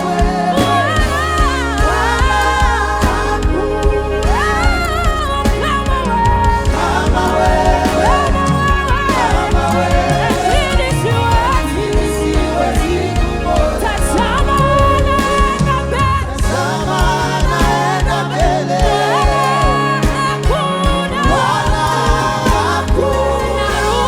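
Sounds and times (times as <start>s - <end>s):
gospel worship music: 0.0s - 24.0s.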